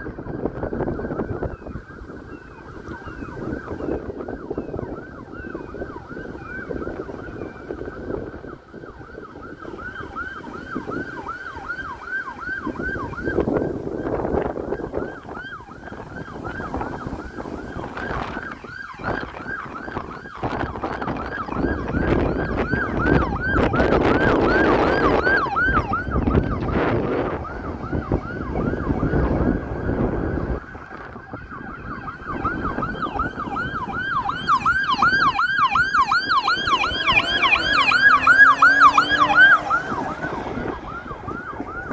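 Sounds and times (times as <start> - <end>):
car engine and tyre noise: 0.0 - 41.9
police siren yelping: 0.0 - 41.9.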